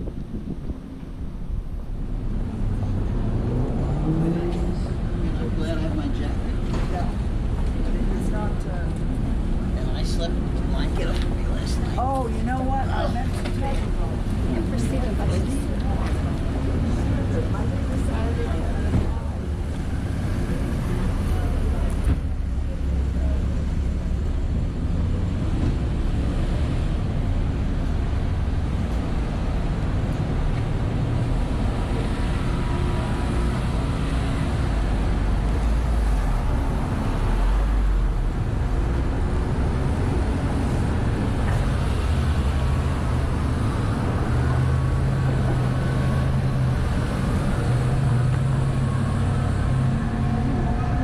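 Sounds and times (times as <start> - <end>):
engine hum: 0.0 - 51.0
road traffic rumble: 0.0 - 51.0.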